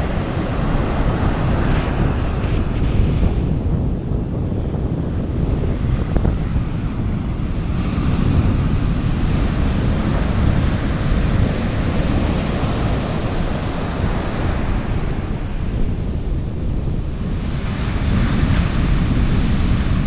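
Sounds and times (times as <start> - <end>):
sea waves washing onto beach: 0.0 - 20.0
wind rumble on microphone: 0.0 - 20.0.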